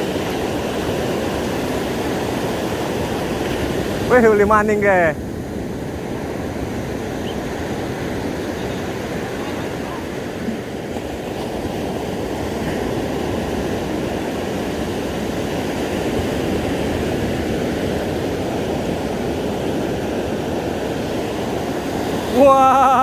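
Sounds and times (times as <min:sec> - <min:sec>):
ocean surf on beach: 0:00.0 - 0:23.0.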